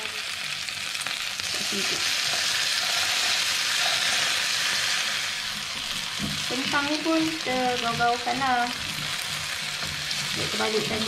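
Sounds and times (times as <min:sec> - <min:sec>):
chicken and potatoes sizzling: 0:00.0 - 0:11.0.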